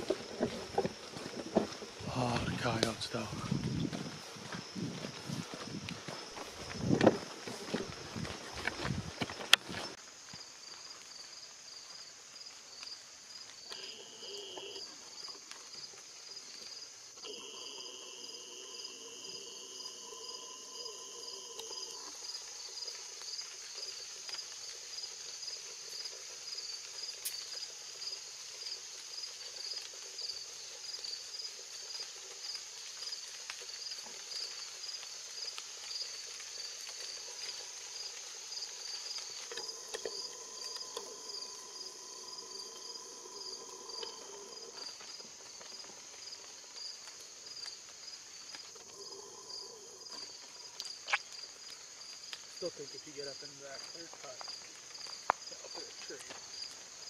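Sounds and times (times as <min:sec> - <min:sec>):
high insect hiss: 0:00.0 - 0:57.0
insects chirping: 0:00.0 - 0:57.0.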